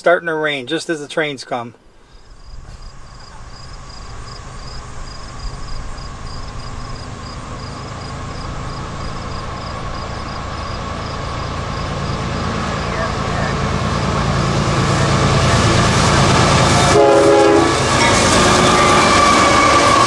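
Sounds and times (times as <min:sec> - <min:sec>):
freight train rumbling: 0:02.2 - 0:20.0.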